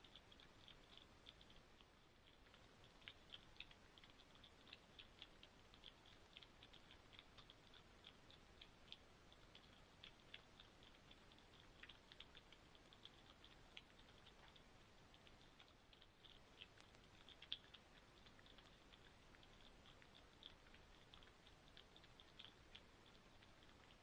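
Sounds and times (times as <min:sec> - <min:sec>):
low background hiss: 0:00.0 - 0:24.0.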